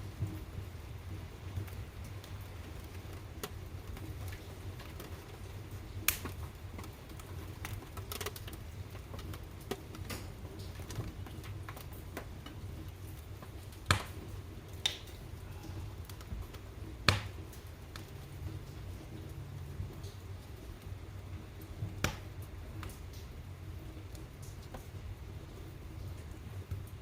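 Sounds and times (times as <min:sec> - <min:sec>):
fire low rumble: 0:00.0 - 0:27.0
wood fire sharp pops: 0:01.5 - 0:25.0.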